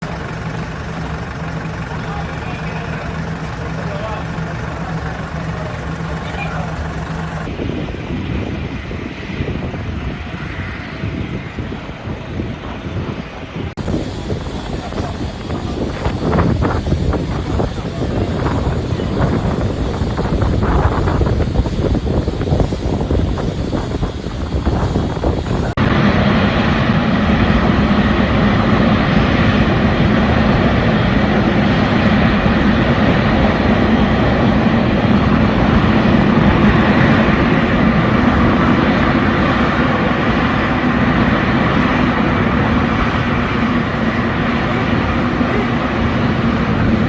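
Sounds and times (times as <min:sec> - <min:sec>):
aircraft engines rumbling: 0:00.0 - 0:47.0.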